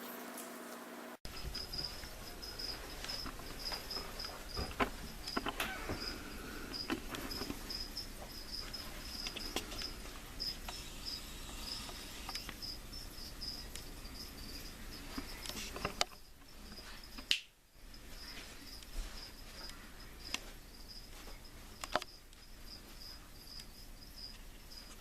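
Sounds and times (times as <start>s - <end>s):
cricket chirping: 1.3s - 25.0s.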